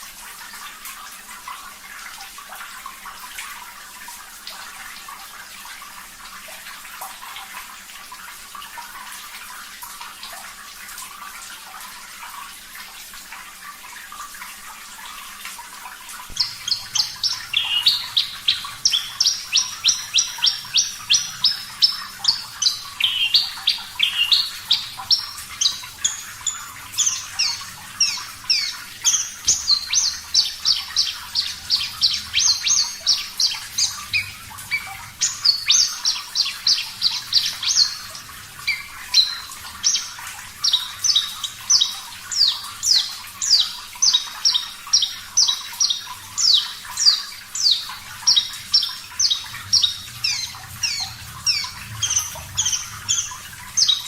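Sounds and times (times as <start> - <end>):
flowing water hiss: 0.0 - 54.0.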